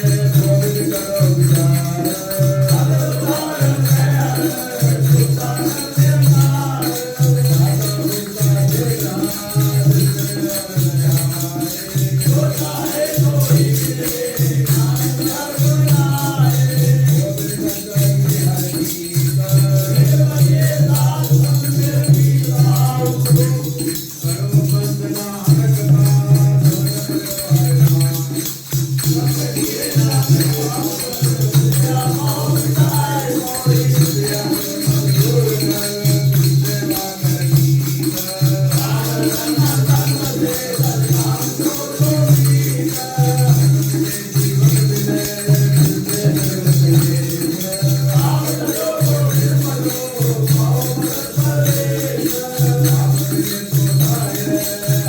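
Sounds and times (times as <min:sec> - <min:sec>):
group singing hymns: 0:00.0 - 0:55.0
jingling rattle: 0:00.0 - 0:55.0.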